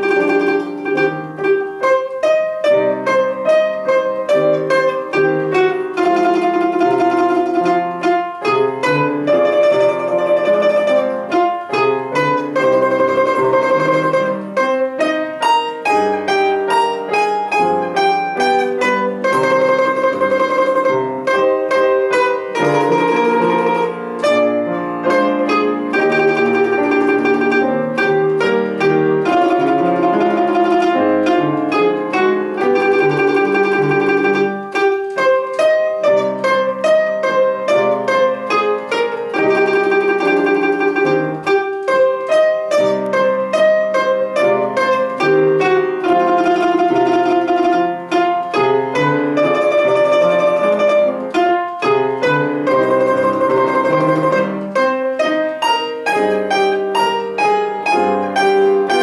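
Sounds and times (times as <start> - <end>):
domra tremolo melody: 0.0 - 59.0
grand piano accompaniment: 0.0 - 59.0.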